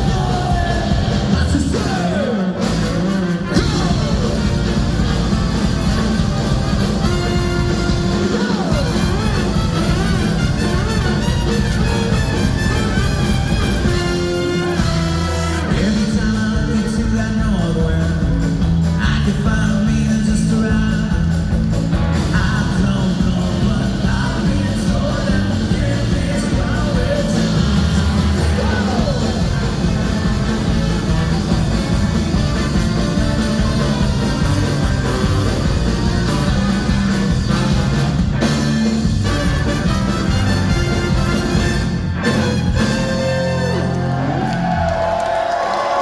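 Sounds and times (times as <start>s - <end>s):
ska-punk band playing live: 0.0s - 46.0s.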